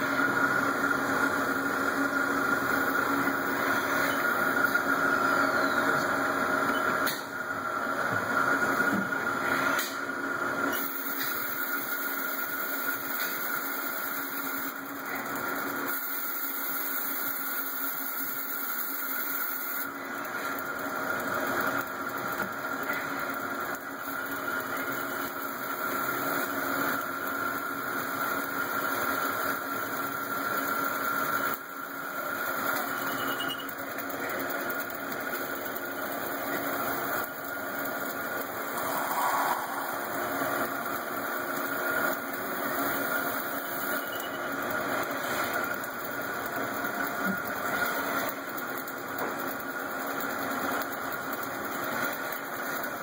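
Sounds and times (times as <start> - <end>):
lathe machine whine: 0.0 - 52.9.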